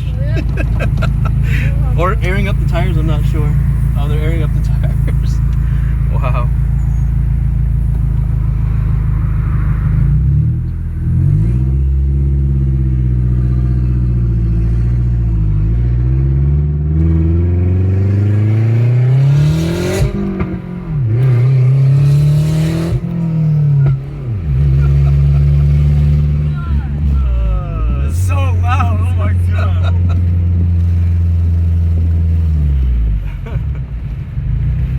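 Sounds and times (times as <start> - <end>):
car engine idling and accelerating: 0.0 - 34.9.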